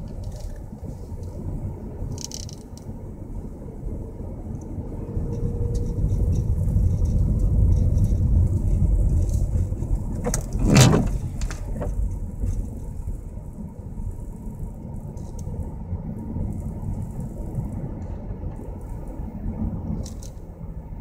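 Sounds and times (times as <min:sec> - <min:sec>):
traffic rumbling past: 0:00.0 - 0:21.0.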